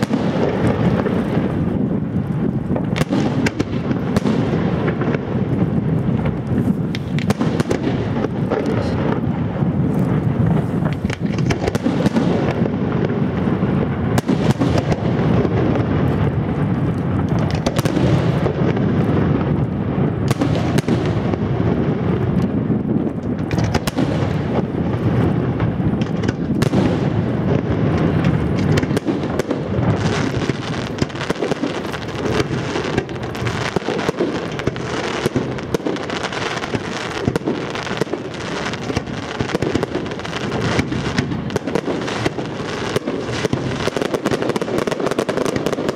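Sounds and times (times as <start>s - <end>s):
firework shells booming: 0.0s - 45.9s
fireworks crackling: 0.0s - 45.9s.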